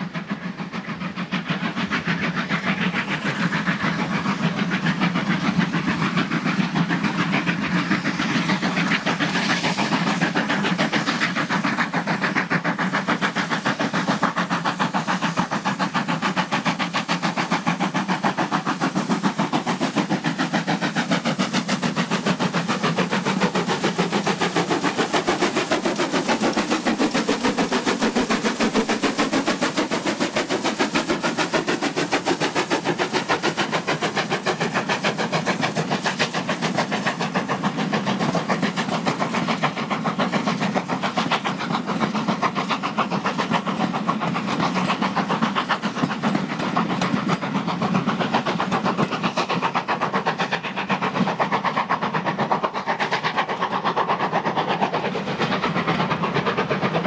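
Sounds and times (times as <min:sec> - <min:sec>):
steam locomotive chuffing: 0:00.0 - 0:57.0
train running on rails: 0:00.0 - 0:57.0.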